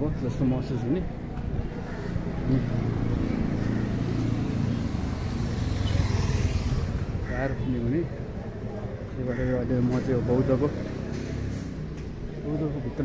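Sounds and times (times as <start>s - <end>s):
vehicle engine rumble: 1.0s - 13.0s.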